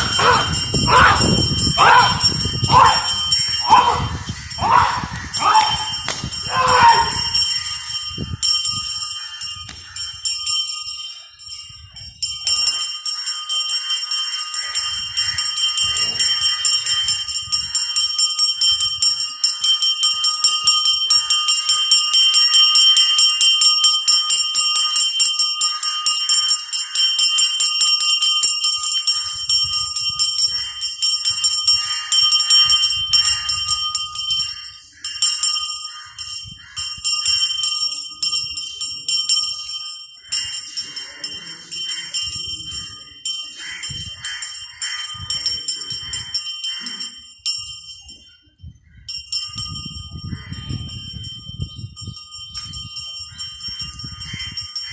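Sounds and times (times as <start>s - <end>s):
bell ringing rapidly: 0.0s - 48.2s, 49.1s - 54.9s.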